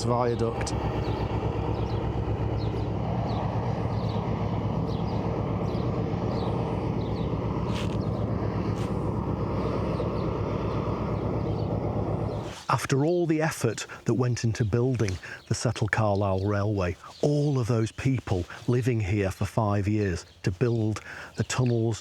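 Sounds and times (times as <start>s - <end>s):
locomotive low rumble: 0.0s - 22.0s.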